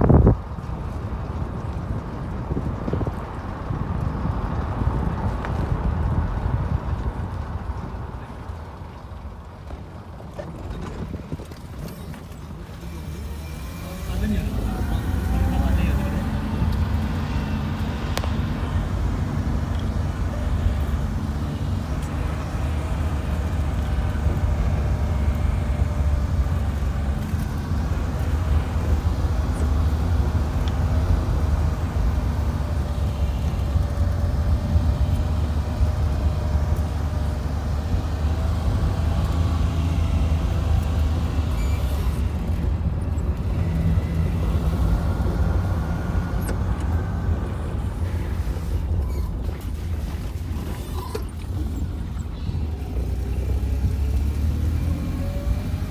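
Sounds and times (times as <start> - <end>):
faint engine hum: 0.0 - 55.9
vehicle rumble from inside cabin: 0.0 - 55.9.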